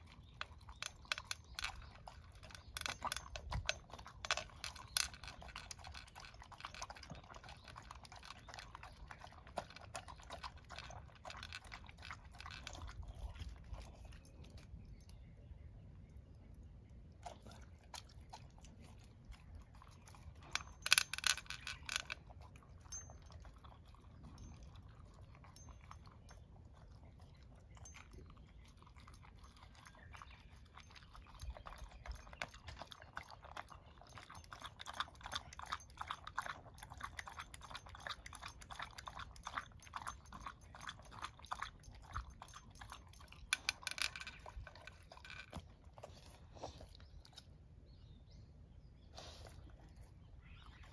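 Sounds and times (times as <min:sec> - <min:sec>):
dog crunching food: 0:00.0 - 0:14.6, 0:17.2 - 0:47.5.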